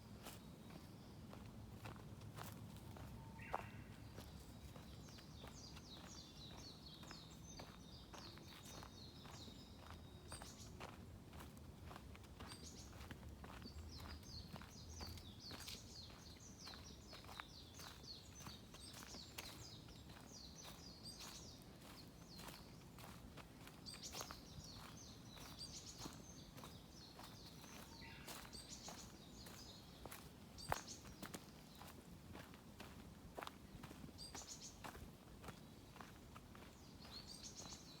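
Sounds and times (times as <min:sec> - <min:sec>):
faint footsteps on forest trail: 0:00.0 - 0:38.0
songbird chirping: 0:00.0 - 0:38.0.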